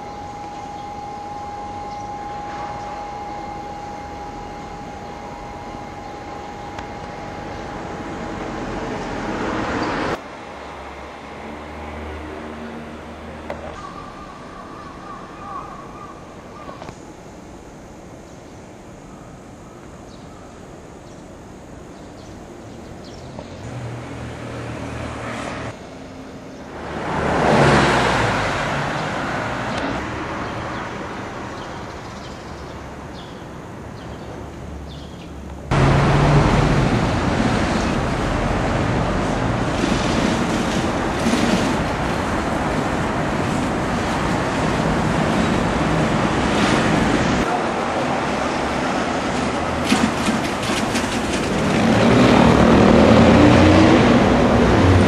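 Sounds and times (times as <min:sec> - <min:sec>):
road traffic noise: 0:00.0 - 0:18.2, 0:20.7 - 0:55.0.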